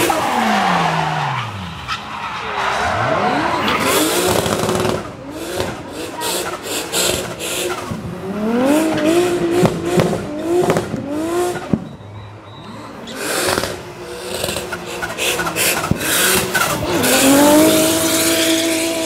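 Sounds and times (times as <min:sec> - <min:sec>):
car engine at high revs: 0:00.0 - 0:11.9, 0:12.6 - 0:19.0.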